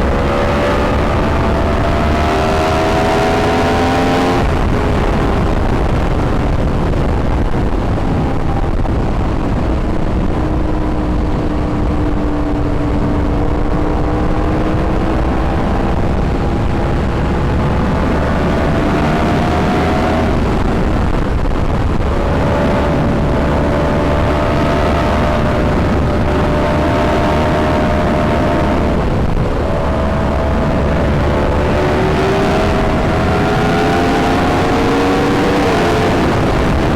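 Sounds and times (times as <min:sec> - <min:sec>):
motorcycle engine running: 0:00.0 - 0:36.9
steady rushing noise: 0:00.0 - 0:36.9.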